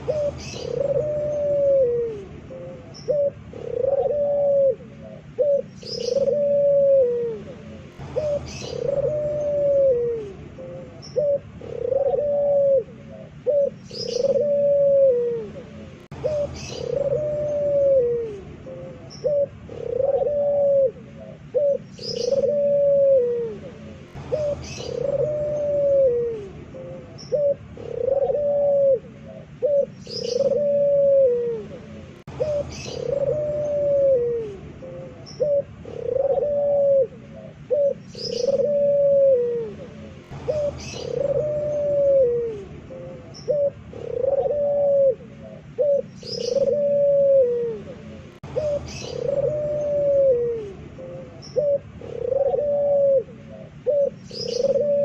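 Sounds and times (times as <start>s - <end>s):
dove cooing loudly: 0.0s - 55.0s.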